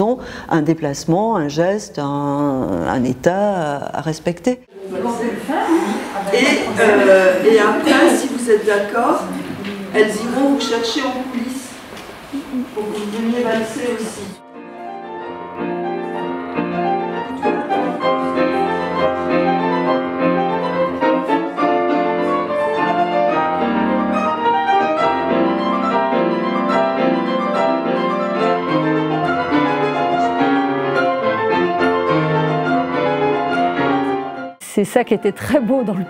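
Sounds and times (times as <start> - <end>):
grand piano waltz: 4.9 - 34.6.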